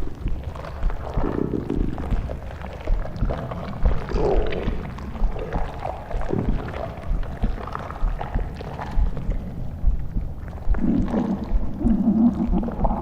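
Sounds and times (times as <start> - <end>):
gusting wind with low rumble: 0.0 - 13.0.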